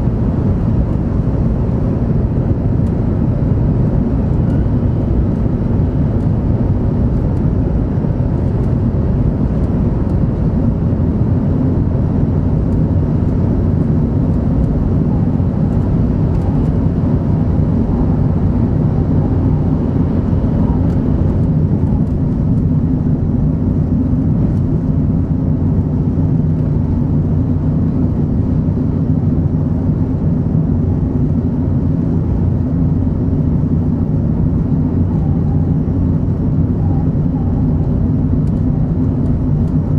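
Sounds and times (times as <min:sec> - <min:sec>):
train rumble inside cabin: 0:00.0 - 0:39.9.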